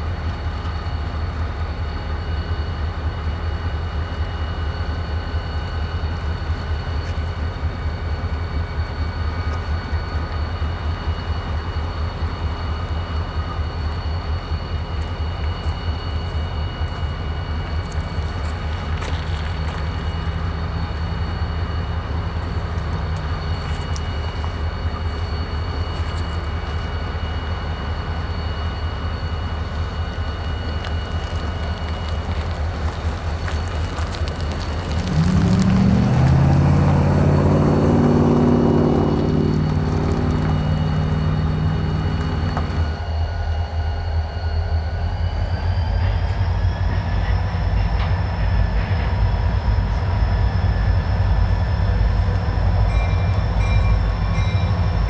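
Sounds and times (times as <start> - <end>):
locomotive idling rumble: 0.0 - 55.0
high whining tones: 8.3 - 55.0.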